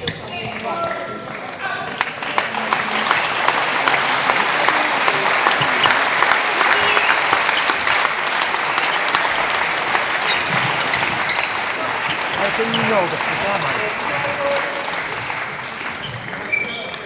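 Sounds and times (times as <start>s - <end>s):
spectators clapping: 0.4s - 17.0s.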